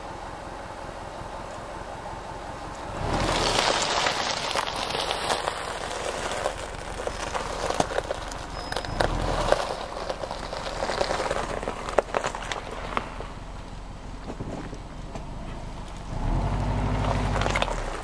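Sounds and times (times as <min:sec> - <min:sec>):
tyres crunching over gravel: 0:00.0 - 0:18.0.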